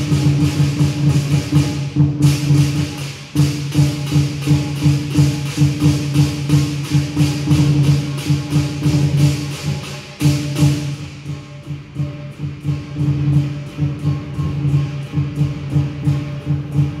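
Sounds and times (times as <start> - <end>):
drum gong and cymbal ensemble: 0.0 - 17.0.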